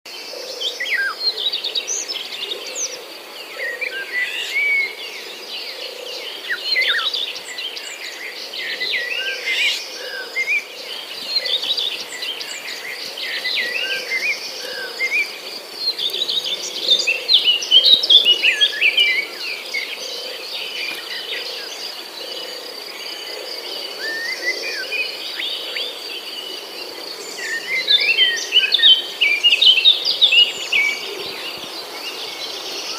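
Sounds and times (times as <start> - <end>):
birds chirping and calling: 0.3 - 32.9.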